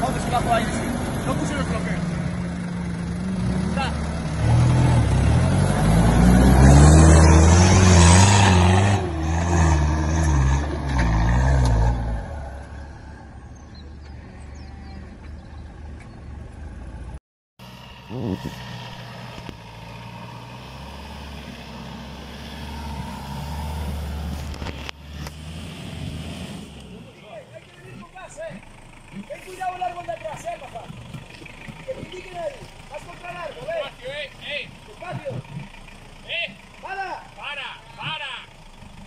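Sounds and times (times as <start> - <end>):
off-road vehicle engine revving: 0.0 - 39.0
off-road vehicle engine running: 0.0 - 39.0.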